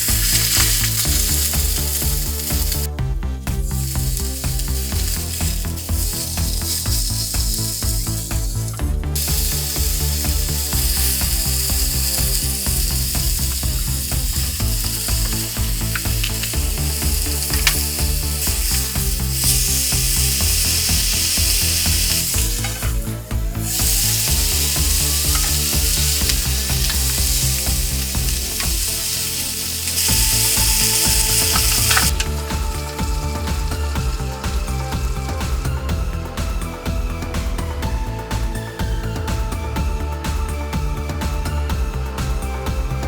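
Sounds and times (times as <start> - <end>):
food sizzling in a pan: 0.0 - 2.9, 3.7 - 35.6
background music with bass: 0.0 - 43.0.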